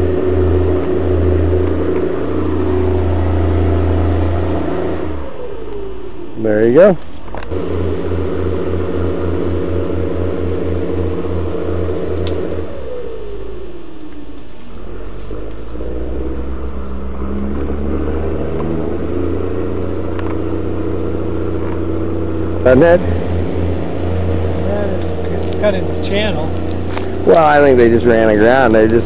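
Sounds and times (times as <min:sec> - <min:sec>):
boat engine throbbing: 0:00.0 - 0:29.0.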